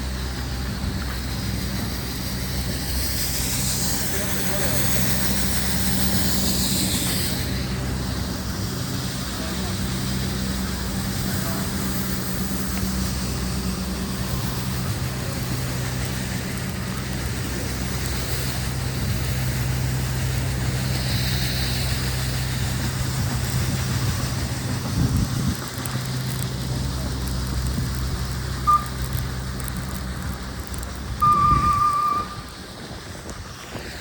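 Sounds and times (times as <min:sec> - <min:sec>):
city background hiss: 0:00.0 - 0:34.0
vehicle engine running: 0:00.0 - 0:34.0.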